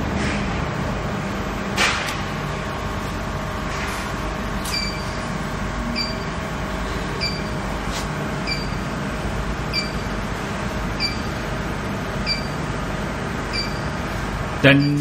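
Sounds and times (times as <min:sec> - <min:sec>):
vacuum pump running: 0:00.0 - 0:15.0.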